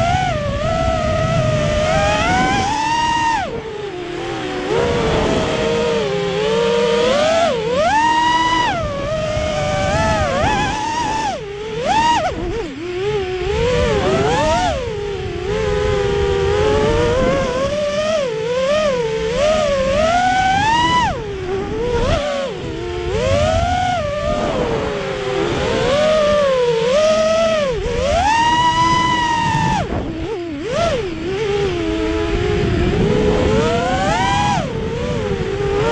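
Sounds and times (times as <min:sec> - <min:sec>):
drone motors buzzing whine: 0:00.0 - 0:35.9
wind rush on microphone: 0:00.0 - 0:35.9.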